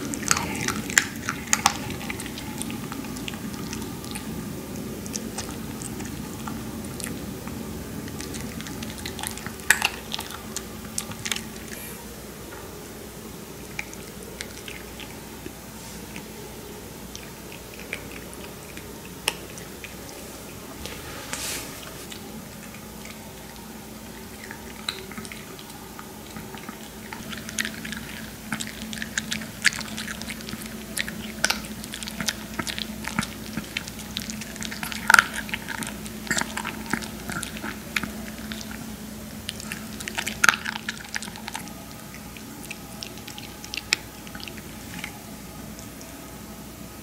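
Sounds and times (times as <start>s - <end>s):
puppy crunching dry kibble: 0.0s - 11.9s, 17.0s - 46.1s
low steady hum: 0.0s - 47.0s.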